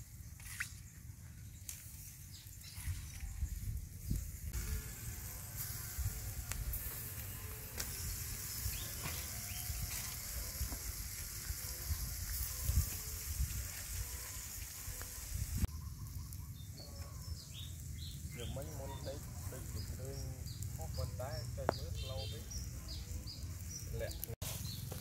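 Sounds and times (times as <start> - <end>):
meat sizzling on a grill: 1.5 - 25.0.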